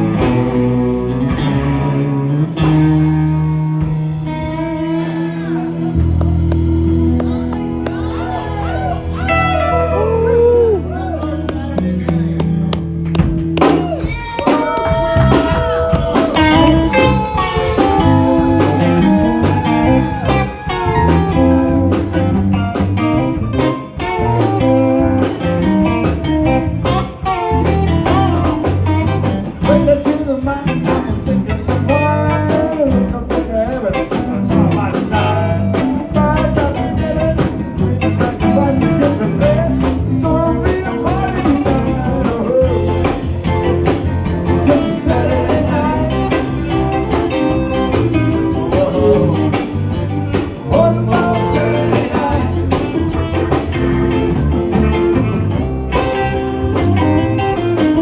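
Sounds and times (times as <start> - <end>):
bass guitar: 0.0 - 58.0
drums: 0.0 - 58.0
electric guitar lead with bending notes: 0.0 - 58.0.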